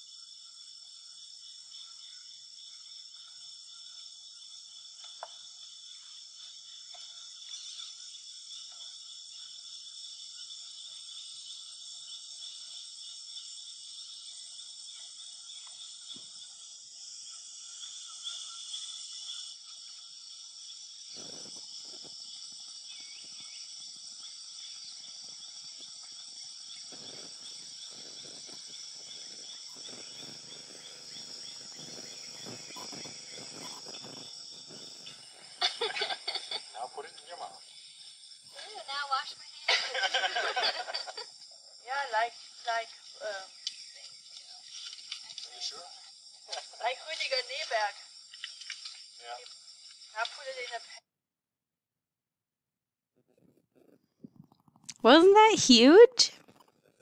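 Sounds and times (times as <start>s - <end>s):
forest insects buzzing and trilling: 0.0s - 51.0s.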